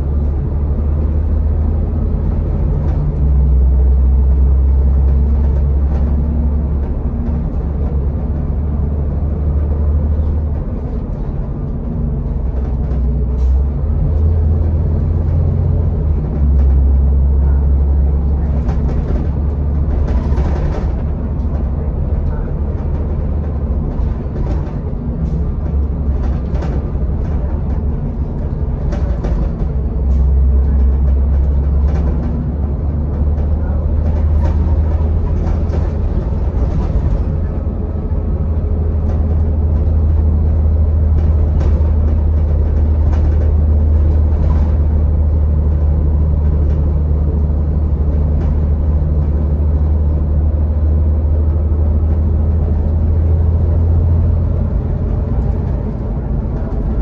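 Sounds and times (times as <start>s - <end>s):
bus engine drone: 0.0s - 57.0s
knocks and rattles of bus body: 0.0s - 57.0s.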